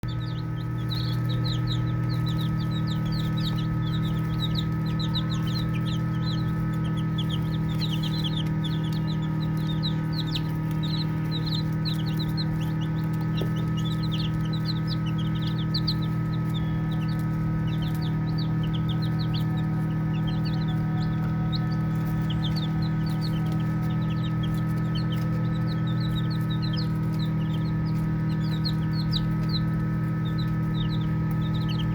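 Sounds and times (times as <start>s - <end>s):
baby chicks peeping: 0.0s - 31.9s
steady low hum: 0.0s - 31.9s.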